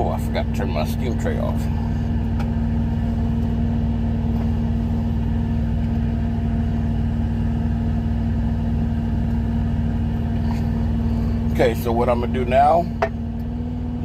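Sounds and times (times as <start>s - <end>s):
truck engine idling: 0.0s - 13.6s.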